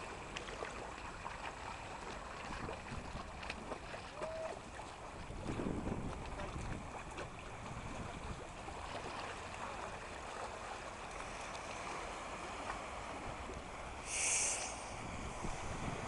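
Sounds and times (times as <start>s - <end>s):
sea water lapping: 0.0s - 16.0s.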